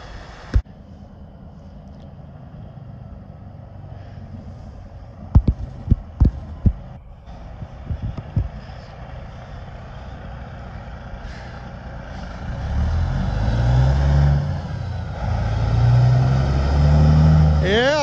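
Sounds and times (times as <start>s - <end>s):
diesel truck engine driving past: 0.0s - 5.3s, 6.1s - 18.0s.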